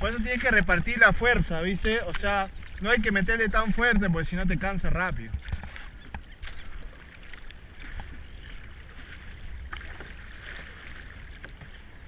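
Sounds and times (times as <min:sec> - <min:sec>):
paddle strokes splashing water: 0:00.0 - 0:12.0.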